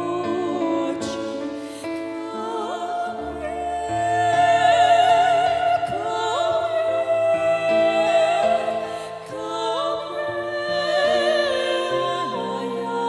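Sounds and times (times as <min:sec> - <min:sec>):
women singing in harmony: 0:00.0 - 0:13.0.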